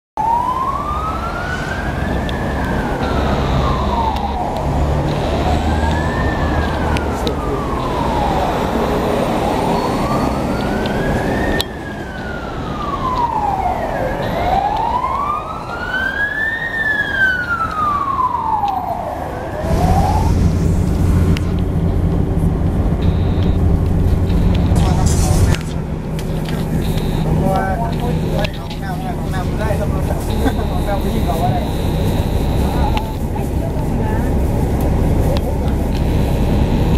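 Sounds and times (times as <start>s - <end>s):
ambulance siren wailing: 0.2s - 36.9s
bus engine running: 0.6s - 15.6s, 17.5s - 36.9s.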